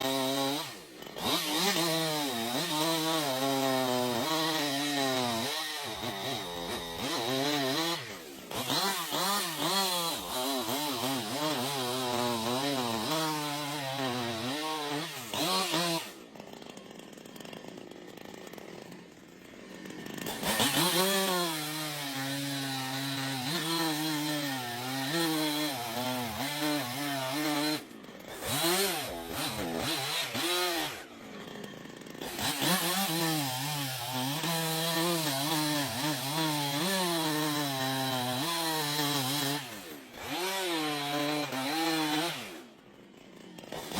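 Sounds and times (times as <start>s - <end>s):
chainsaw revving cutting wood: 0.0s - 43.9s.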